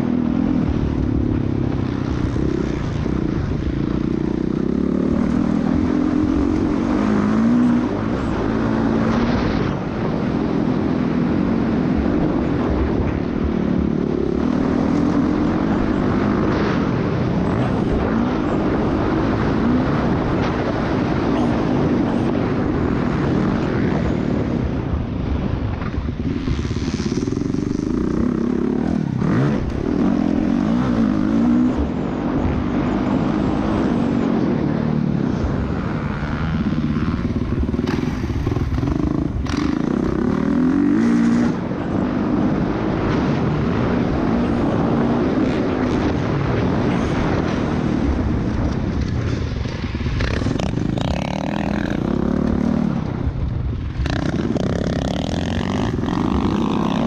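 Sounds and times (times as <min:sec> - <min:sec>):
motocross engine revving: 0:00.0 - 0:24.5, 0:26.2 - 0:48.3, 0:50.1 - 0:53.2, 0:53.8 - 0:57.0
wind rushing over microphone: 0:00.0 - 0:57.0.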